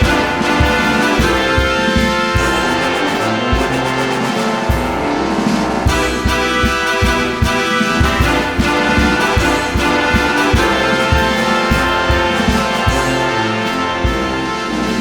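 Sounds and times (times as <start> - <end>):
bright instrumental tune with brass: 0.0 - 15.0.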